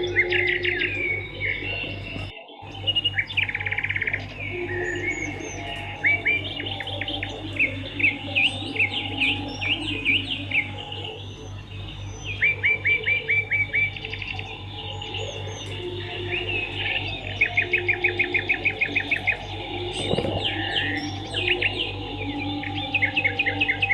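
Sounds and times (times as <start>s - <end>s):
birds twittering: 0.0s - 23.9s
steady low hum: 0.0s - 23.9s.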